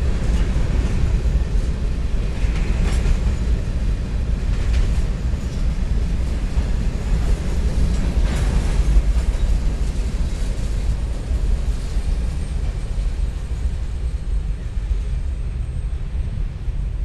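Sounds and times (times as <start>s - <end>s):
freight train wheels rumbling on rail: 0.0s - 17.0s.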